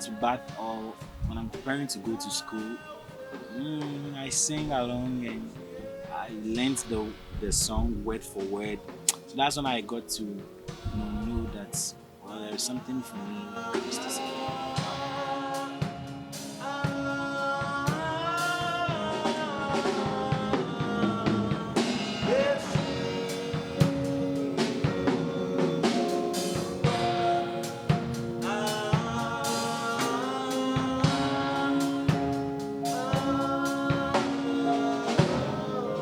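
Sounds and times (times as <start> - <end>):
drum kit beat: 0.0 - 36.0
held instrumental notes: 0.0 - 36.0
person singing: 0.0 - 36.0.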